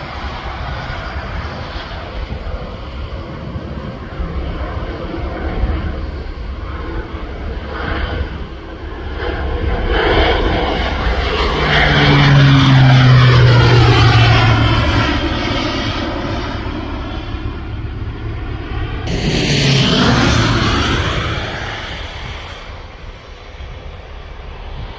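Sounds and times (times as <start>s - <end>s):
airplane engine and propeller passing: 0.0s - 24.9s.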